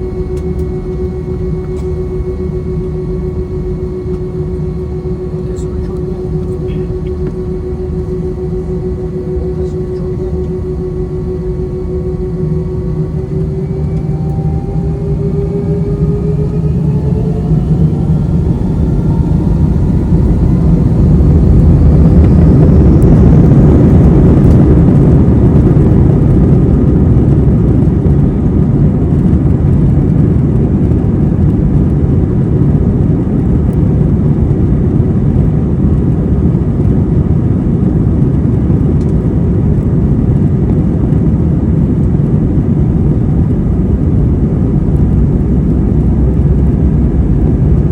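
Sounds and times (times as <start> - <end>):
jet engine roar: 0.0 - 47.9
jet engine whine: 0.0 - 47.9.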